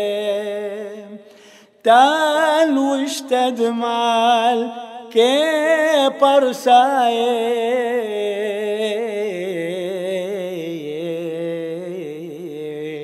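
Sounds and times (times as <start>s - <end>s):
man singing a hymn: 0.0s - 1.2s, 1.8s - 13.0s.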